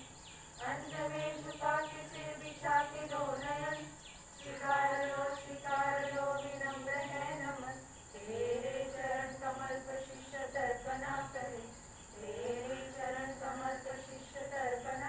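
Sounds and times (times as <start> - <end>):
group singing a prayer song: 0.0 - 15.0.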